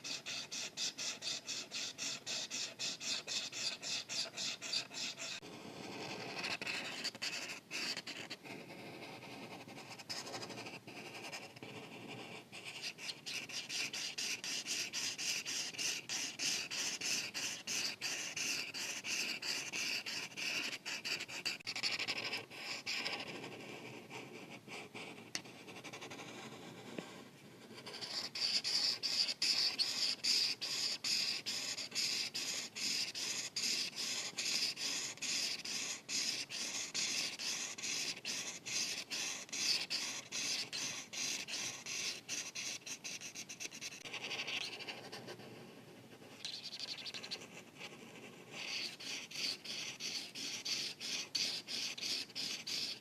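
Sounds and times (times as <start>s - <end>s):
marker scratching on paper: 0.0s - 53.0s.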